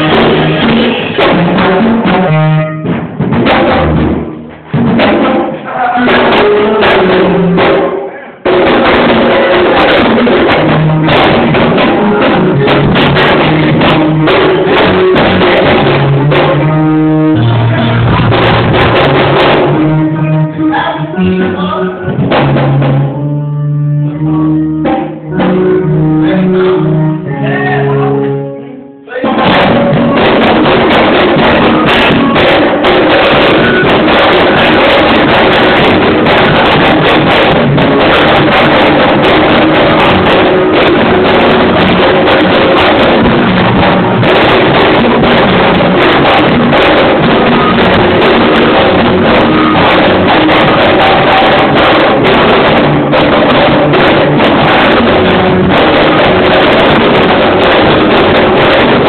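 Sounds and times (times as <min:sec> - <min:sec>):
drum kit and percussion groove: 0:00.0 - 0:28.5, 0:29.1 - 0:59.0
live band music: 0:00.0 - 0:59.0.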